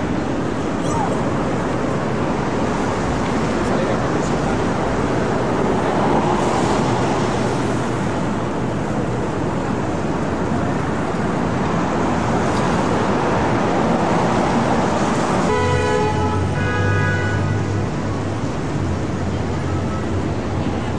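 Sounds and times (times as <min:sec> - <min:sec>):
city street traffic: 0:00.0 - 0:20.9.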